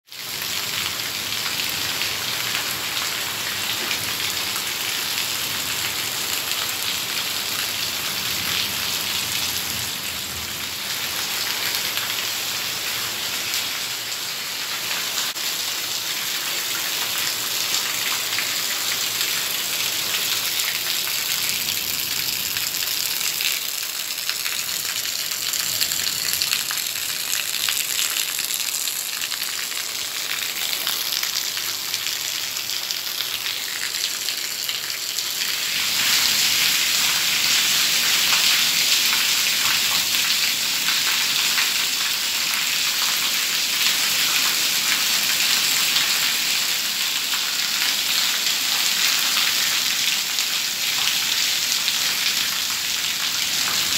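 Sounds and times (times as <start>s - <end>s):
heavy rain on terrace floor: 0.0s - 53.9s.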